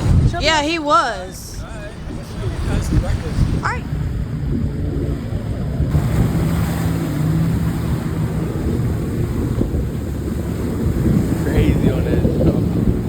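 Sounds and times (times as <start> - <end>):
jet ski engine hum: 0.0 - 13.0
wind buffeting microphone: 0.0 - 13.0.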